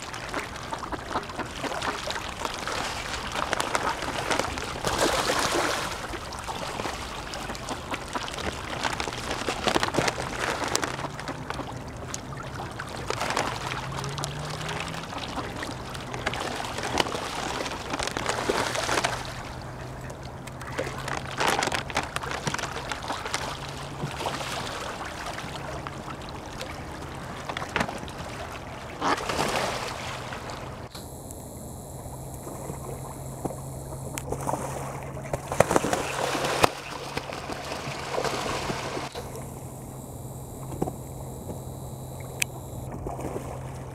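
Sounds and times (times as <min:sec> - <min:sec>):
ducks and geese splashing water: 0:00.0 - 0:30.9, 0:32.4 - 0:39.4, 0:42.7 - 0:43.9
steady low hum: 0:00.0 - 0:43.9.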